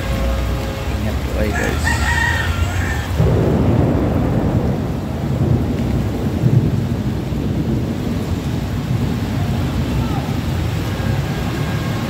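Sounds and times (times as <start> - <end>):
heavy rain pouring on street: 0.0 - 12.0.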